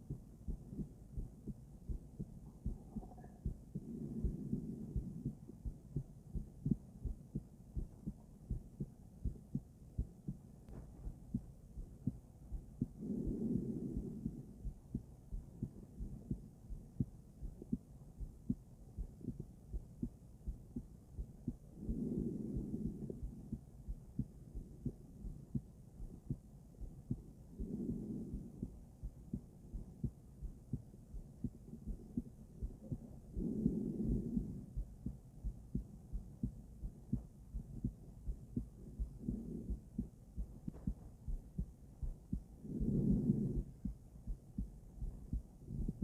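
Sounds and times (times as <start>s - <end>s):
heartbeat through stethoscope: 0.0s - 46.0s.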